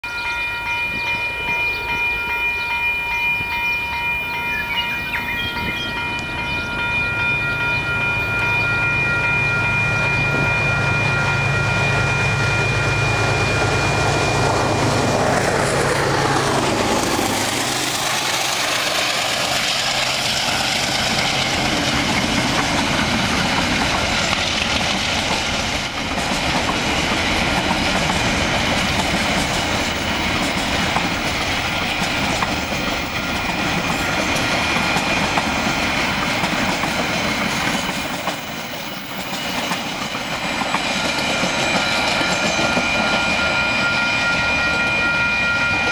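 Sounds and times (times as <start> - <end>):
steady high tones: 0.0 - 24.4, 26.8 - 45.9
diesel locomotive engine hum: 0.0 - 45.9
train wheels clacking on rails: 0.0 - 45.9.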